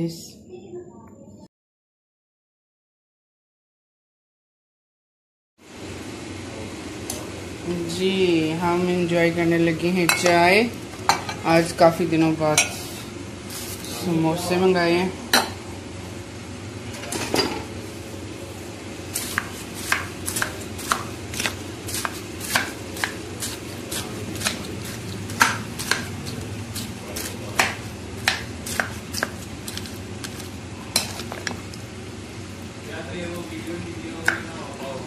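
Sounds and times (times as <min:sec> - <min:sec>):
steady low hum: 0:05.6 - 0:35.0.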